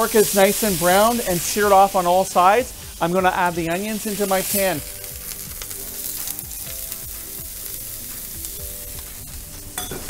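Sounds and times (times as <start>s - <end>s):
onions and meat sizzling in oil: 0.0s - 10.0s.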